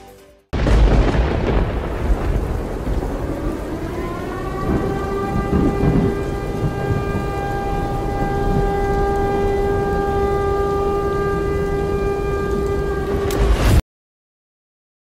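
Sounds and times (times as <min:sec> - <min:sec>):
heavy rain: 0:00.6 - 0:13.8
thunderclap and rolling thunder: 0:00.6 - 0:13.8.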